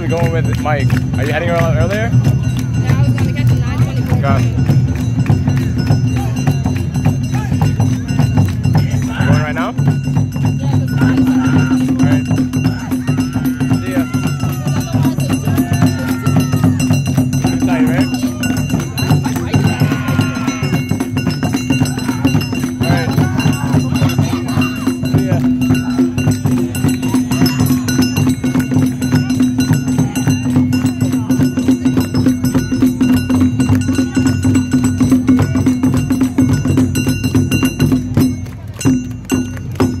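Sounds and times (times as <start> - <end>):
clanking hand bells: 0.0 - 40.0
crowd voices: 0.0 - 40.0
drums: 0.0 - 40.0.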